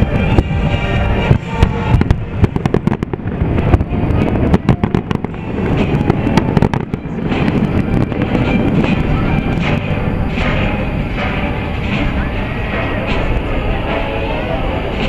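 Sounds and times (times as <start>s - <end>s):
fireworks bursting and crackling: 0.0s - 15.0s
show music: 0.0s - 15.0s.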